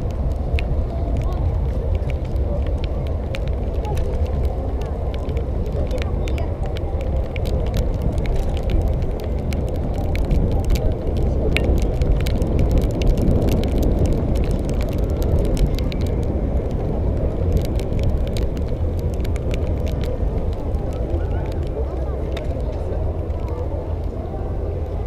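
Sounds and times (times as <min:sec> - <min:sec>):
sharp clicks and crackles: 0:00.0 - 0:25.0
wind and road noise: 0:00.0 - 0:25.0.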